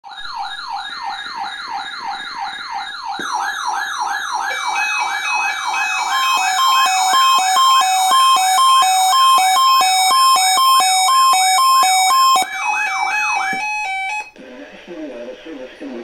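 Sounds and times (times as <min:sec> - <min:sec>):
electronic siren yelp: 0:00.0 - 0:14.4.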